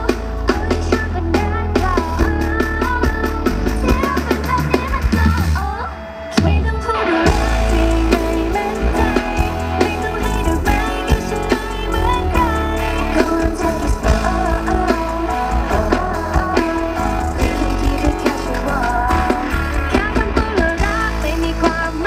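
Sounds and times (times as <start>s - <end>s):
drums: 0.0s - 22.0s
electric guitar: 0.0s - 22.0s
woman singing: 0.0s - 22.0s.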